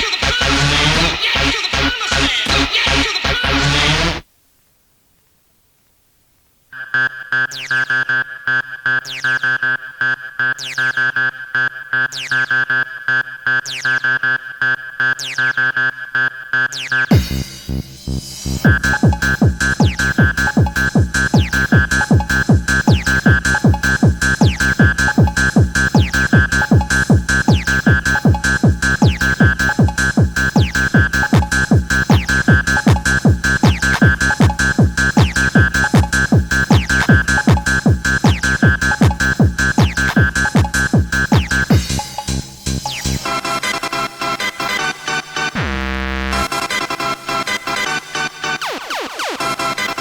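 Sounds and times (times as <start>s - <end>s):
techno dance music: 0.0s - 4.2s, 7.8s - 50.0s.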